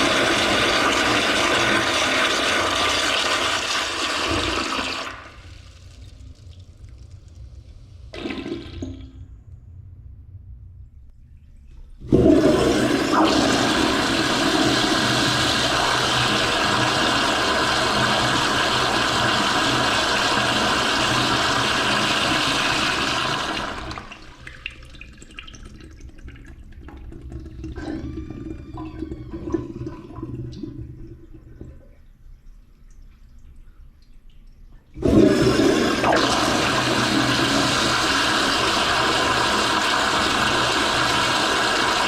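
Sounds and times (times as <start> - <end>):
toilet flushing: 0.0 - 9.3, 11.9 - 32.0, 34.9 - 42.0.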